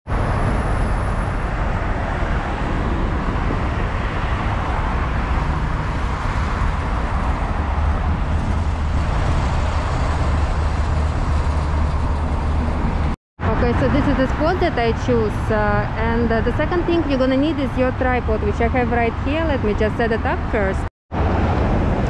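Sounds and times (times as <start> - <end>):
road traffic rumble: 0.1 - 22.0.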